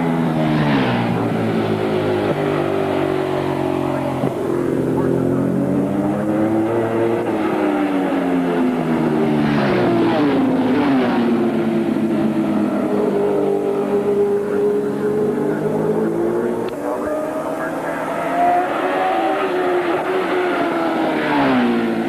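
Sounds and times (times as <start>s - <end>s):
racing motorcycles passing: 0.0s - 22.0s.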